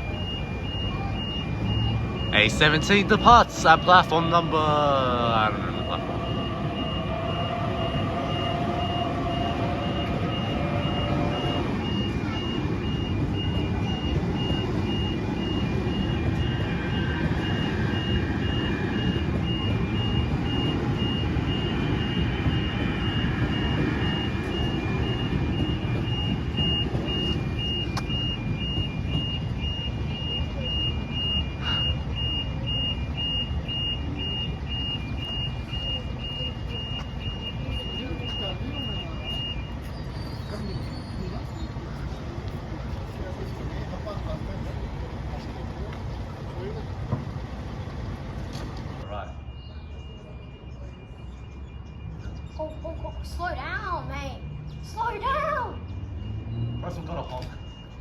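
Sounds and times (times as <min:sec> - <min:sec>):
crossing bell electronic beeping: 0:00.0 - 0:45.3, 0:49.0 - 0:58.0
low rumble of vehicles: 0:00.0 - 0:58.0.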